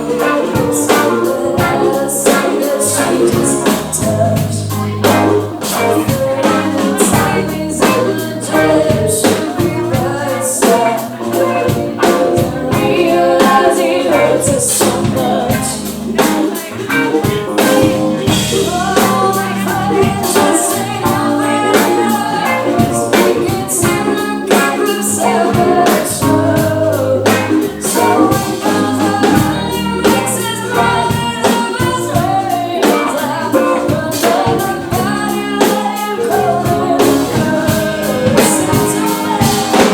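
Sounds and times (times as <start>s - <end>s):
drum kit: 0.0s - 39.9s
guitar: 0.0s - 39.9s
person singing: 0.0s - 39.9s.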